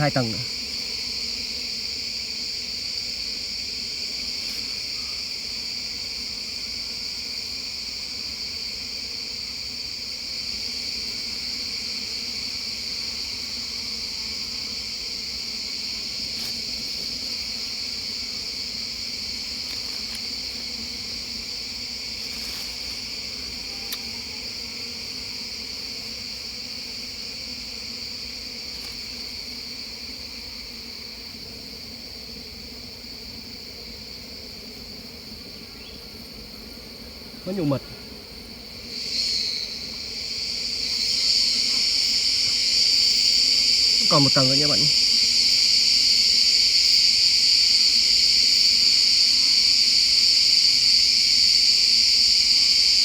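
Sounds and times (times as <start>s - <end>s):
honeybees humming: 0.0s - 53.0s
insects chorus: 0.0s - 53.0s.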